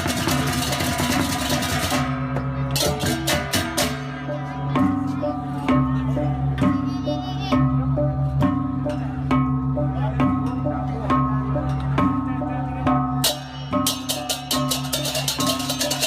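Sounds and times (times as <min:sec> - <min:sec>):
metallic percussion strikes: 0:00.0 - 0:16.0.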